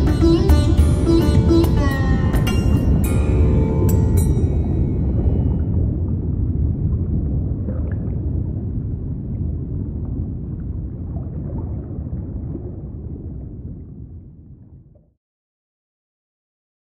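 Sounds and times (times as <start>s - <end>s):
deep underwater rumble: 0.0s - 15.2s.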